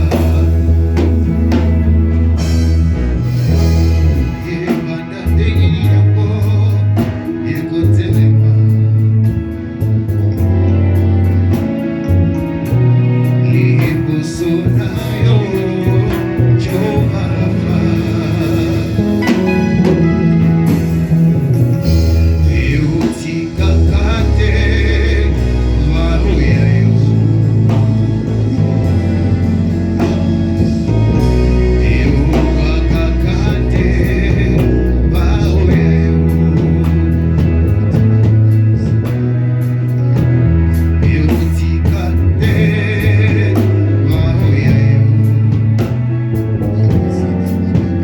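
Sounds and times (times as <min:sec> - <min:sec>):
bass line: 0:00.0 - 0:48.0
worship band with singing: 0:00.0 - 0:48.0.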